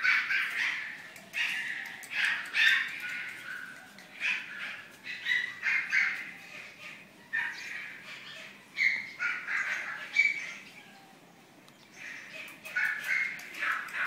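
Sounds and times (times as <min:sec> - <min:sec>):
small dog yapping: 0:00.0 - 0:10.6, 0:12.4 - 0:14.0.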